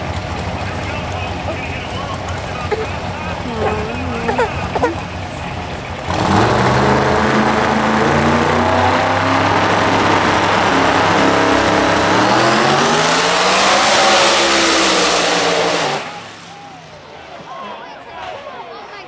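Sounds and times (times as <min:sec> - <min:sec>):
racing car engine at full throttle: 0:00.0 - 0:17.5.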